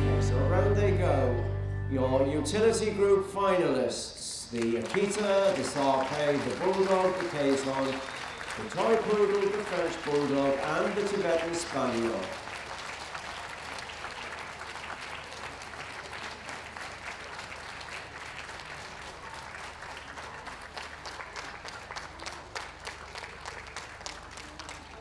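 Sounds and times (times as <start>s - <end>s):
audience applauding: 4.5s - 25.0s.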